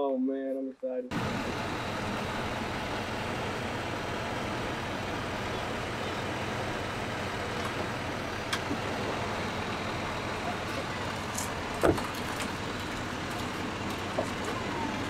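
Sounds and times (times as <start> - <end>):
truck engine running: 1.1 - 15.0.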